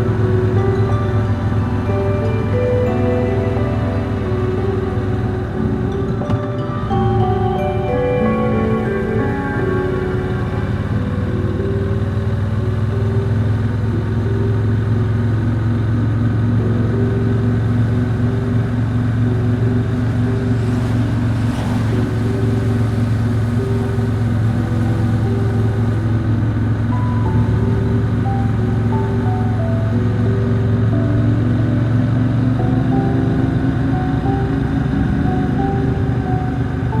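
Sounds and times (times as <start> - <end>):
held music notes: 0.0 - 37.0
motorcycle engine drone: 0.0 - 37.0.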